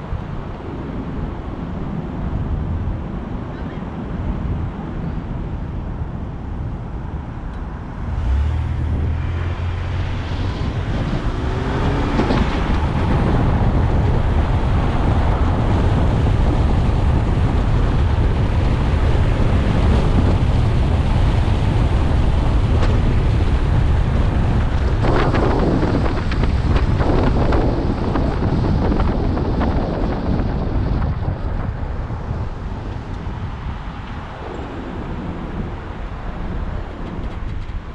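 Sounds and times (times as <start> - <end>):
road and engine rumble: 0.0 - 37.9
wind buffeting microphone: 0.0 - 37.9.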